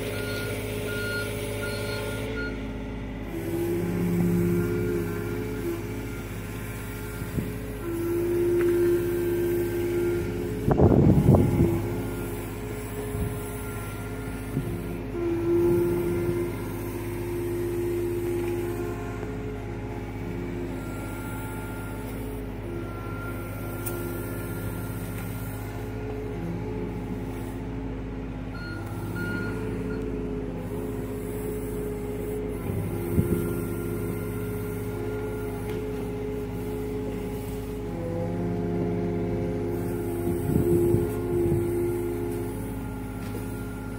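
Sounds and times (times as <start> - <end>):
diesel engine running under load: 0.0 - 43.9
hydraulic whining: 0.0 - 43.9.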